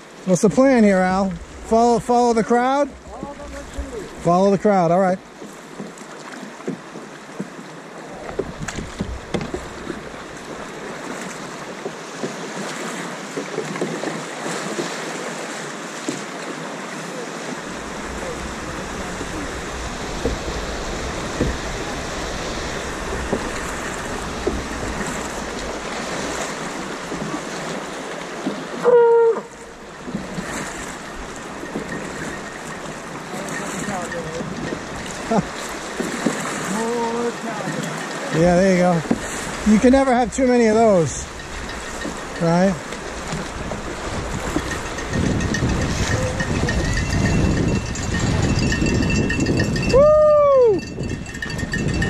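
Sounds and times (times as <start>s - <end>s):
paddle splashes and knocks: 0.0s - 52.0s
stream water rushing: 0.0s - 52.0s.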